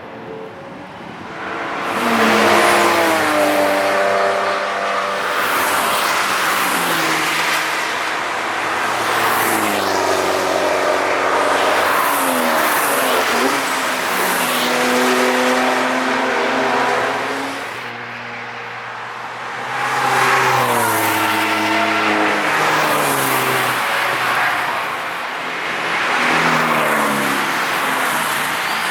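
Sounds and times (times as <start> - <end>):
cars passing at speed: 0.0 - 28.9.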